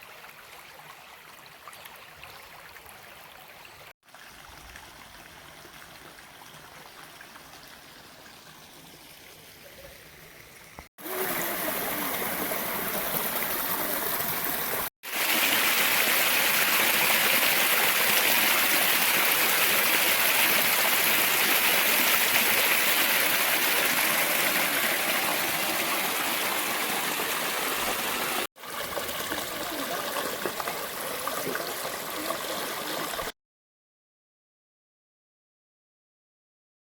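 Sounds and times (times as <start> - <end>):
creek water flowing: 0.0 - 33.3.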